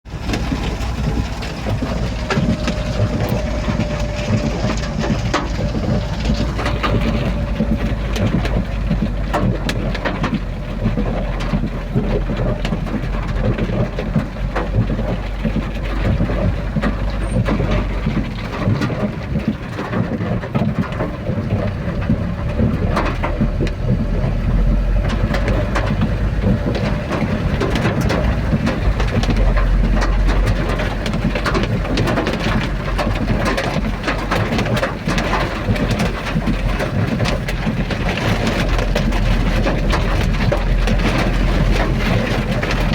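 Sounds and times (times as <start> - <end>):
low rumble: 0.0 - 42.9
raindrops striking close by: 0.1 - 42.9.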